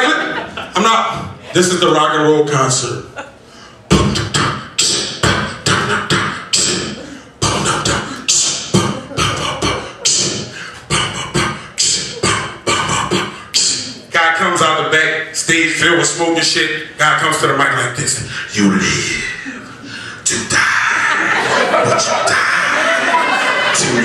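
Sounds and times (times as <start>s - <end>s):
man beatboxing into microphone: 3.9s - 24.0s.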